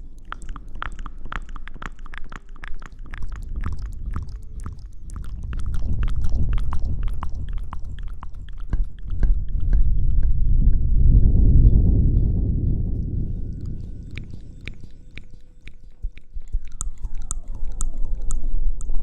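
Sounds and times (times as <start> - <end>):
low rumble: 3.1 - 19.0.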